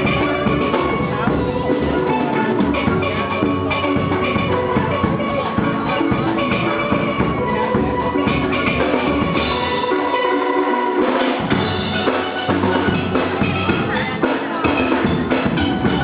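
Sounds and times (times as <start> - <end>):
drums keeping the beat: 0.0 - 16.0
steel pans playing melody: 0.0 - 16.0.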